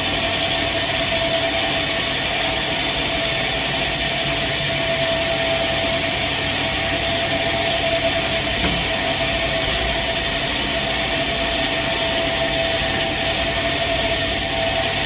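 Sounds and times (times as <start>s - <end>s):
sawmill saw humming and whining: 0.0s - 15.0s.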